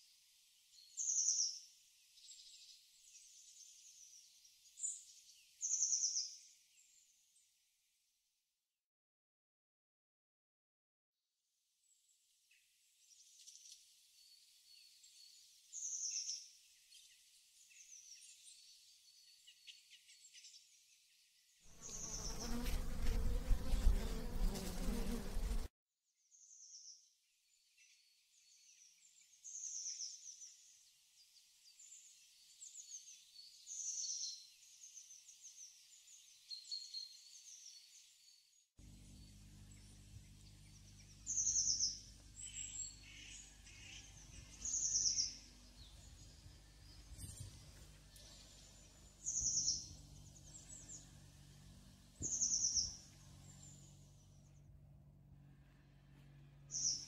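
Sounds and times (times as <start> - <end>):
songbirds chirping: 0.0 - 7.6, 11.8 - 25.6, 26.3 - 57.0.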